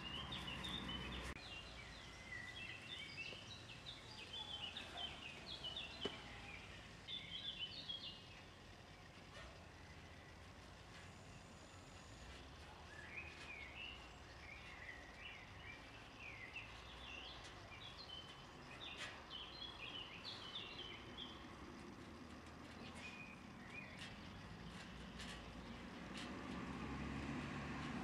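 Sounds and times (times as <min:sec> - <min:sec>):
faint background noise: 0:00.0 - 0:28.0
songbird chirping: 0:00.0 - 0:28.0.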